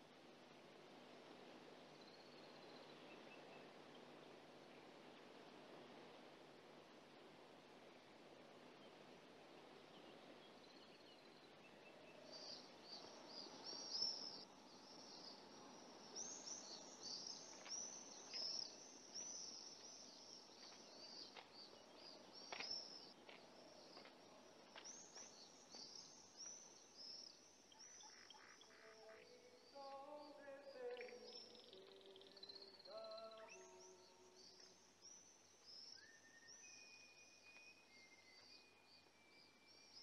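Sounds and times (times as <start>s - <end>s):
film soundtrack hiss: 0.0s - 40.0s
small birds chirping: 0.8s - 40.0s.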